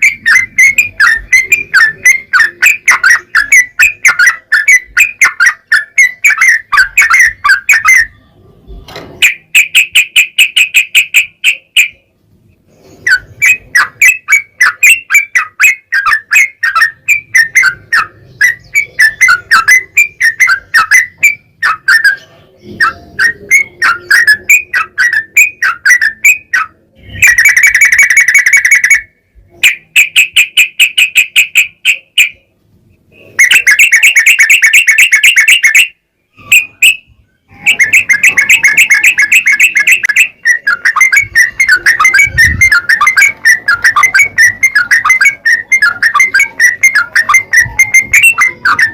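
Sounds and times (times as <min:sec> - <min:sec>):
bird singing rapid notes: 0:00.0 - 0:48.9.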